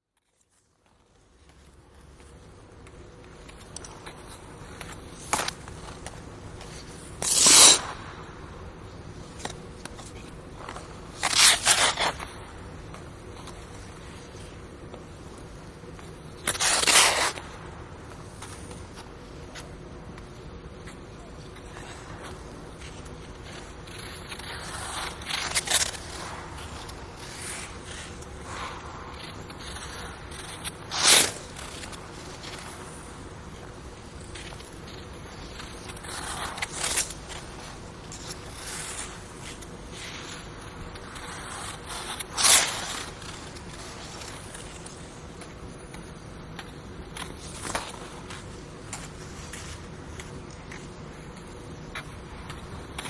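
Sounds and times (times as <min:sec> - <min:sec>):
low room noise: 0:00.0 - 0:53.0
ice skate blades scraping ice: 0:00.3 - 0:53.0.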